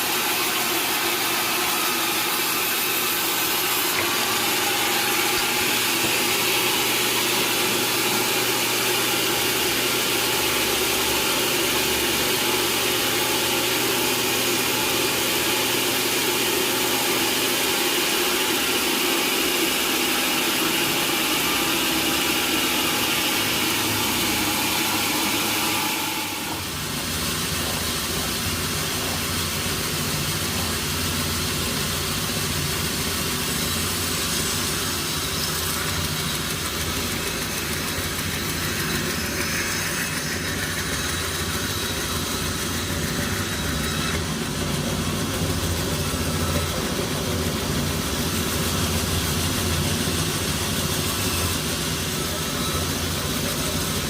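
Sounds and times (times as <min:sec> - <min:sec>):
sawmill machinery droning: 0:00.0 - 0:54.0.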